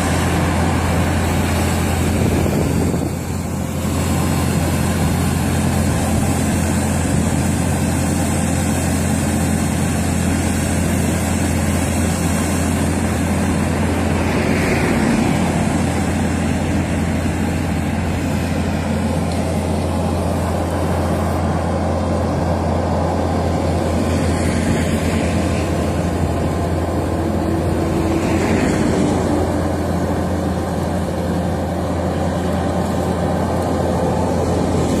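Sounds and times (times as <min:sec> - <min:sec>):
loader engine humming: 0:00.0 - 0:35.0.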